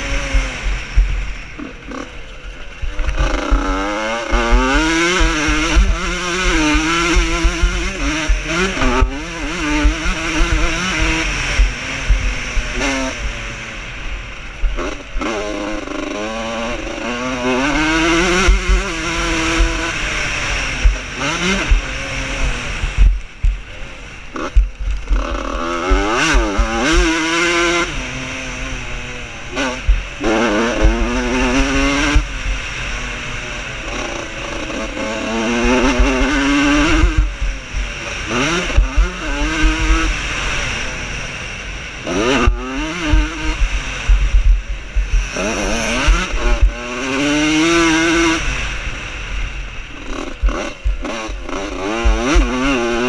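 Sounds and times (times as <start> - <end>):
motocross bike engines revving: 0.0 - 53.0.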